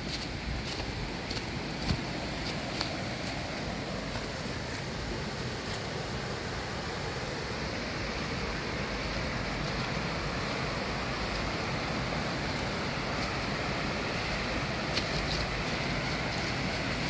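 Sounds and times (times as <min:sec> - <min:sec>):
waterfall roaring: 0:00.6 - 0:17.0.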